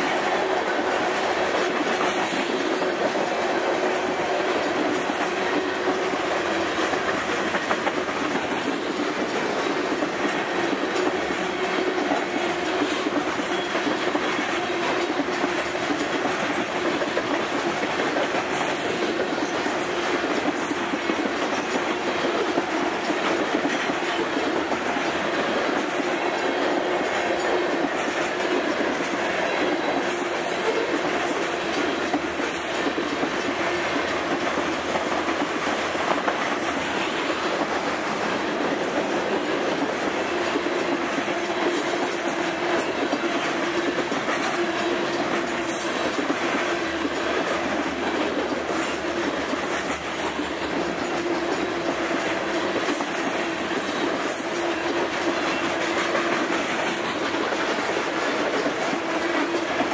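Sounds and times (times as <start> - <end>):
train wheels rumbling on rails: 0.0 - 59.9
wheels clicking over rail joints: 0.1 - 59.9.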